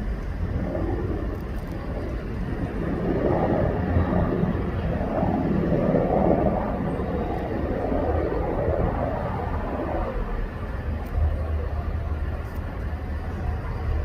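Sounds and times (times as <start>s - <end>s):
helicopter flying overhead: 0.0s - 14.0s.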